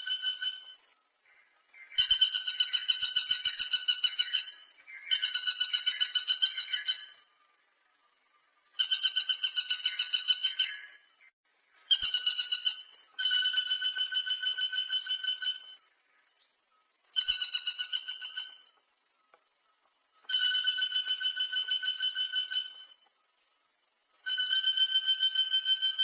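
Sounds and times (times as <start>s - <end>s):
woodpecker rattling calls: 0.0s - 7.3s, 8.7s - 11.3s, 11.9s - 16.4s, 17.1s - 19.4s, 20.1s - 23.2s, 24.2s - 26.0s.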